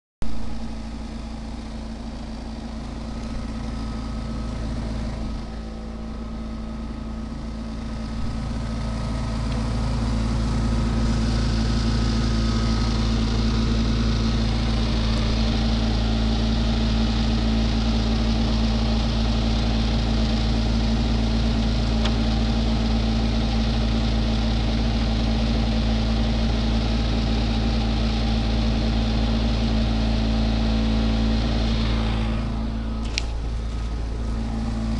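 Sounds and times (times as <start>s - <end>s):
vehicle engine idling: 0.2s - 34.9s.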